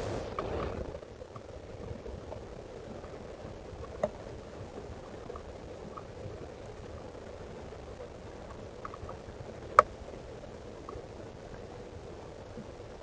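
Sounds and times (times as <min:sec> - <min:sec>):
background hiss: 0:00.0 - 0:13.0
low rumble: 0:00.0 - 0:13.0
rustle: 0:00.0 - 0:13.0
faint ticks: 0:00.3 - 0:13.0.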